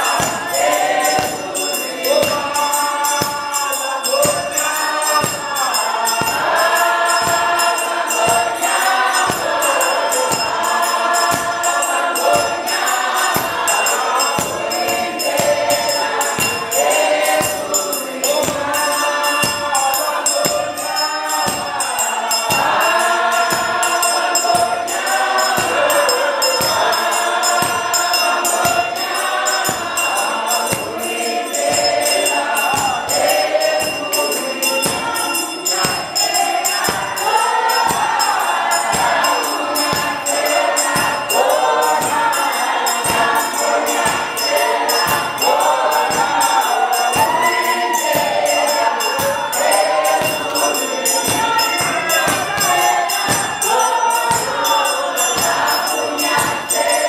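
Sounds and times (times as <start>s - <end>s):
choir singing gospel song: 0.0s - 57.0s.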